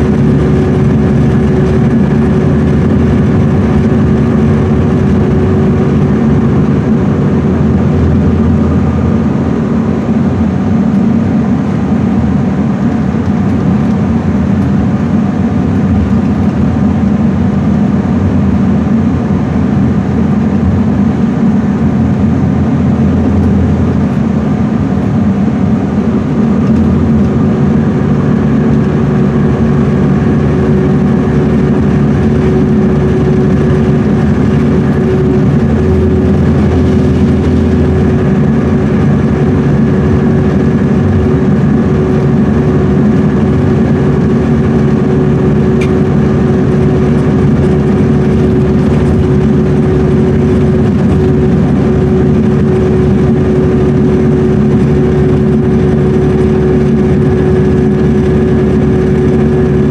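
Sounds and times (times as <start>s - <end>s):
road noise: 0.0s - 58.9s
bus diesel engine running: 0.0s - 59.9s
steady whine: 0.0s - 59.9s.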